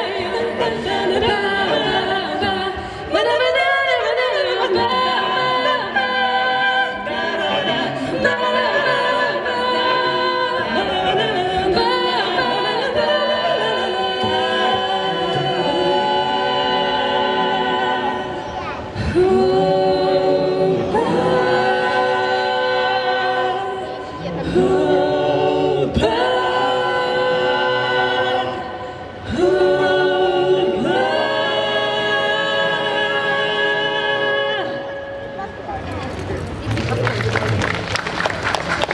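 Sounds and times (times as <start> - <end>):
a cappella group singing: 0.0 - 35.5.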